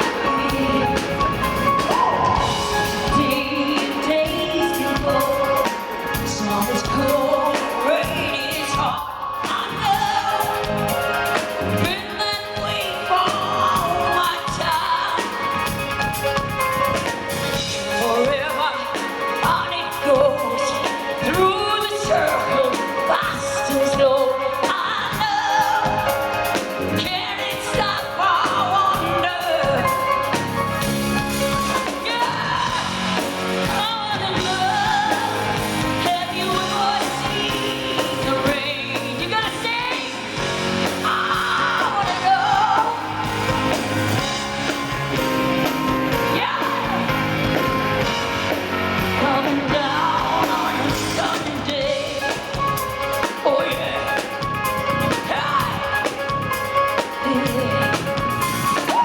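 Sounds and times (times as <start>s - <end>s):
live rock band playing: 0.0s - 59.0s
woman singing: 0.0s - 59.0s.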